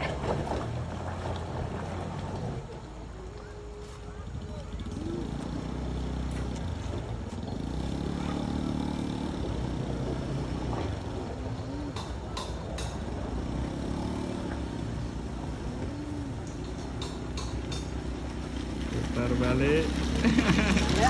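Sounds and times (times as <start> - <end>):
bus engine labouring: 0.0 - 21.0
motorcycle engine running: 0.0 - 21.0.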